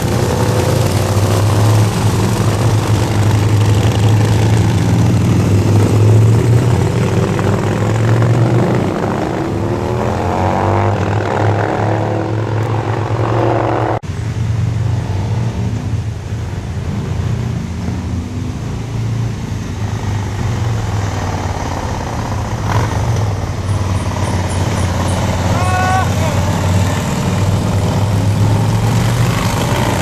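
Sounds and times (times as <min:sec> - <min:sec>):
motorcycle engine revving: 0:00.0 - 0:14.0, 0:17.2 - 0:30.0
low motorcycle engine drone: 0:00.0 - 0:30.0.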